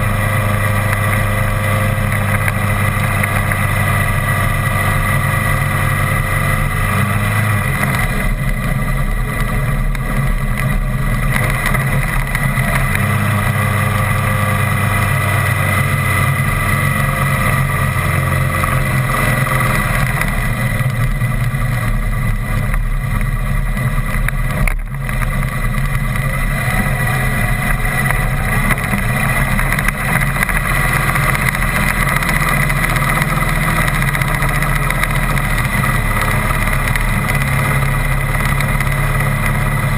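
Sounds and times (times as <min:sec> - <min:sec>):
tyre noise: 0:00.0 - 0:39.9
vehicle engine running: 0:00.0 - 0:39.9.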